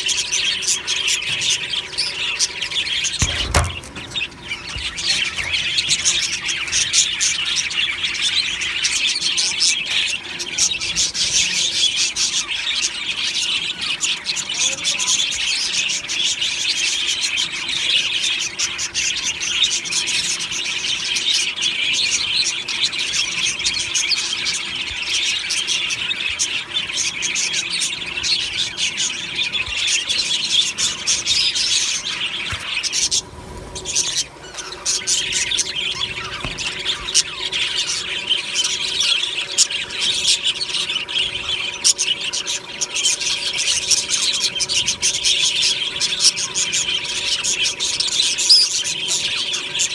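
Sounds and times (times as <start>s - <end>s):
budgerigars chattering and chirping: 0.0s - 49.9s.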